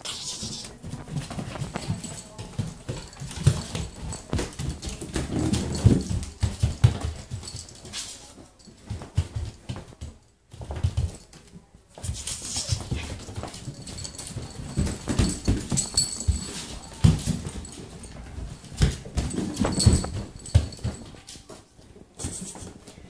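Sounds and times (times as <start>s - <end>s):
ferret scampering on floor: 0.0s - 23.0s.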